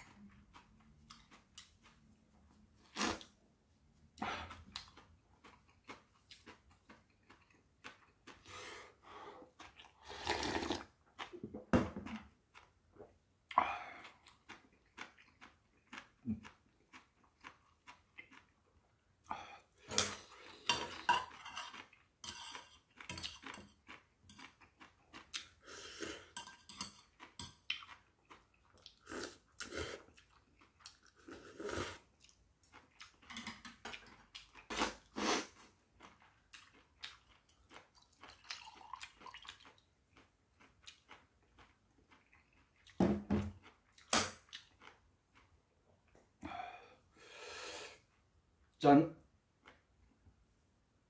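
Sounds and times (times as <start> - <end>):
person chewing: 0.0 - 3.4, 4.0 - 48.3, 49.6 - 49.9.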